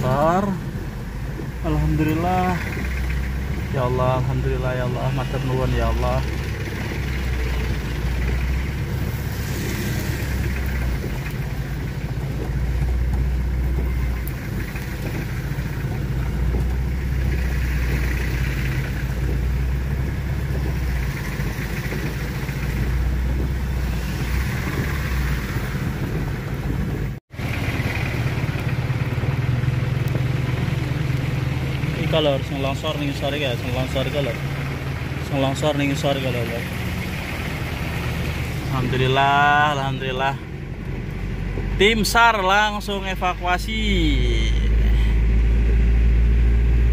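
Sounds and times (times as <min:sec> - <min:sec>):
road noise: 0:00.0 - 0:46.9
vehicle engine running: 0:00.0 - 0:46.9.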